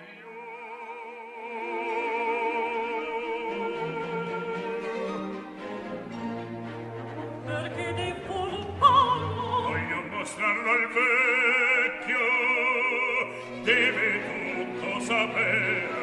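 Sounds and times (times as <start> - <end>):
operatic singing: 0.0 - 16.0
orchestral accompaniment: 1.3 - 16.0.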